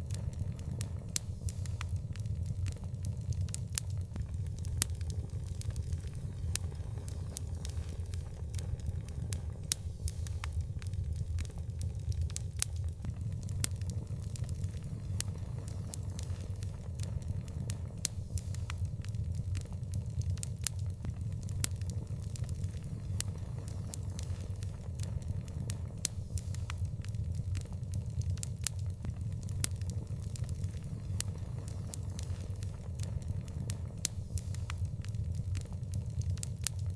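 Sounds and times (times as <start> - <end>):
low rumble: 0.0 - 36.9
wood fire crackling and popping: 0.0 - 36.9.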